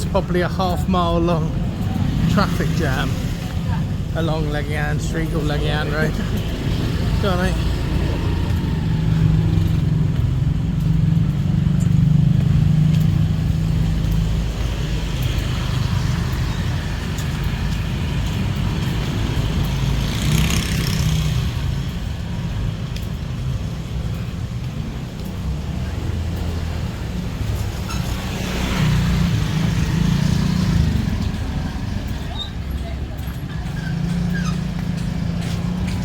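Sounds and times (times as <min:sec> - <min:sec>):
scooter and car engines running: 0:00.0 - 0:36.0
loud vehicle passing: 0:01.5 - 0:22.3, 0:25.2 - 0:36.0.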